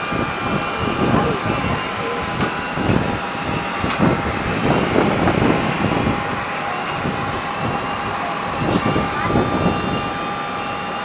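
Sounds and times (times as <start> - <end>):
distant jet engines roaring: 0.0 - 11.0.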